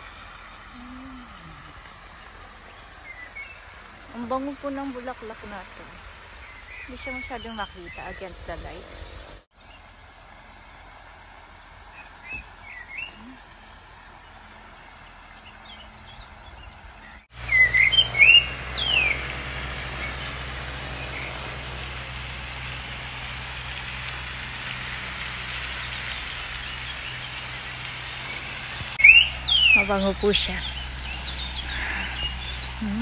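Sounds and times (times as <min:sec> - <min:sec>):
songbirds chirping: 0:00.0 - 0:24.4, 0:25.3 - 0:33.0
steady outdoor rush: 0:00.0 - 0:33.0.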